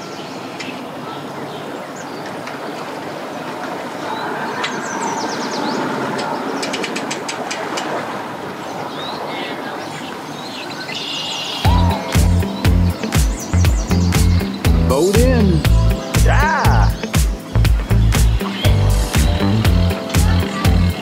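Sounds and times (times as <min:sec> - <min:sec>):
propeller churning water: 0:00.8 - 0:10.4, 0:11.6 - 0:21.0.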